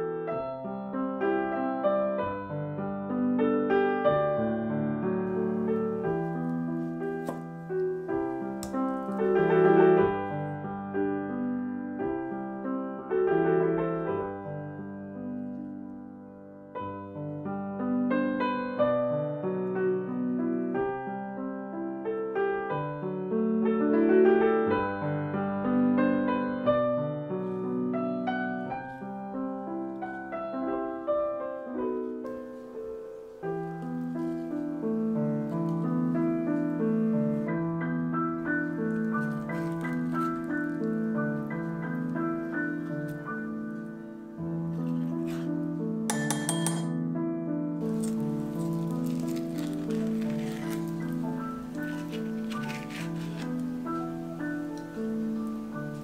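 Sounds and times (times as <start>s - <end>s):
slow piano melody: 0.0s - 56.0s.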